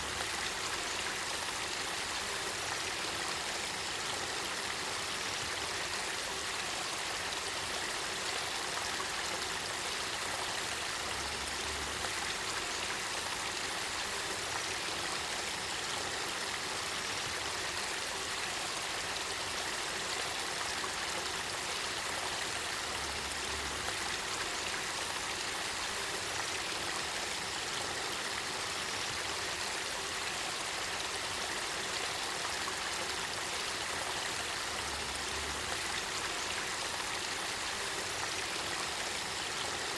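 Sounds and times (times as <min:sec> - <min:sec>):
stream water flowing and bubbling: 0:00.0 - 0:39.9.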